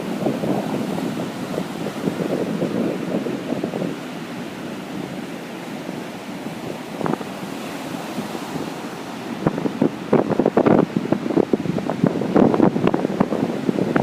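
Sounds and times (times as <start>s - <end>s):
strong wind: 0.0s - 14.0s
waves breaking on beach: 0.0s - 14.0s
wind buffeting microphone: 0.0s - 14.0s.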